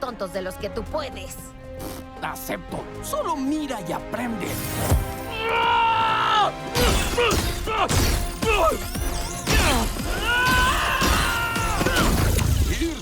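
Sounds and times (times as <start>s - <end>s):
action music: 0.0s - 13.0s.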